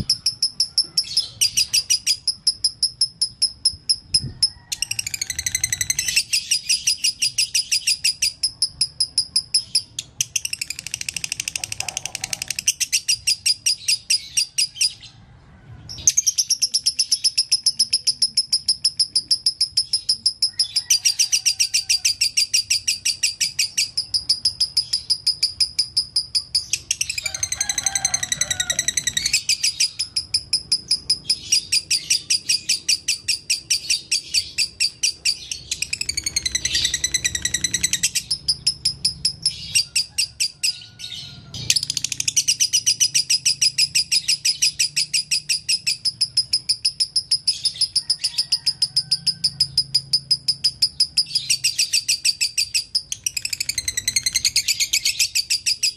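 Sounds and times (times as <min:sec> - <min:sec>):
lovebird chattering high chirps: 0:00.0 - 0:15.0, 0:16.0 - 0:40.8, 0:41.6 - 0:55.9.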